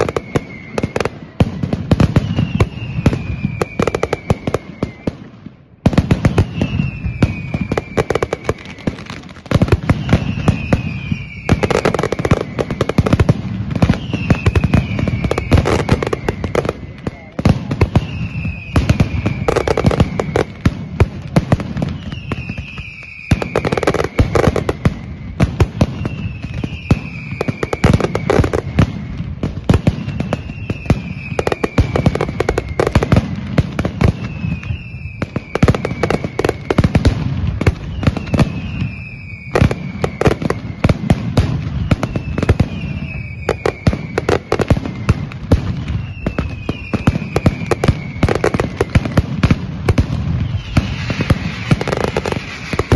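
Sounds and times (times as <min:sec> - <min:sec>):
falling whistle: 0:00.0 - 0:05.3, 0:06.2 - 0:09.0, 0:09.6 - 0:20.8, 0:21.6 - 0:49.2, 0:50.3 - 0:52.9
firecracker barrage: 0:00.0 - 0:52.9.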